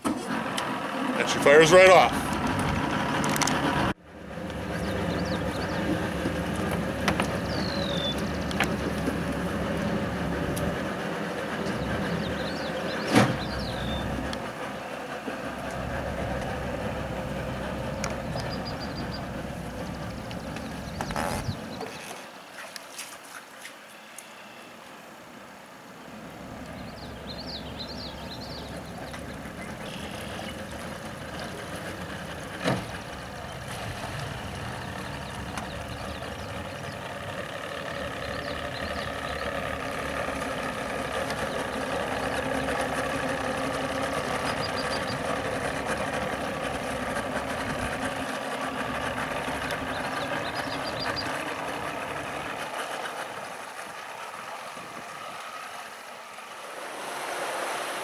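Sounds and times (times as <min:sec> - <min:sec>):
outboard motor running: 0:00.0 - 0:22.4, 0:26.0 - 0:58.0.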